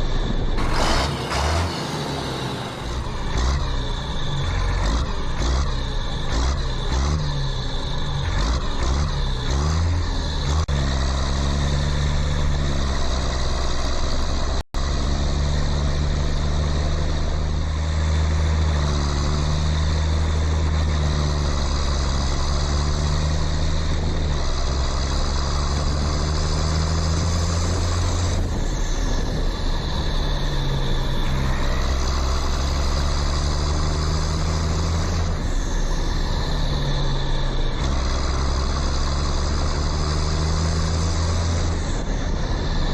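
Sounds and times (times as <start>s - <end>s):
toy tractor motor drone: 0.6s - 14.3s, 18.6s - 42.9s.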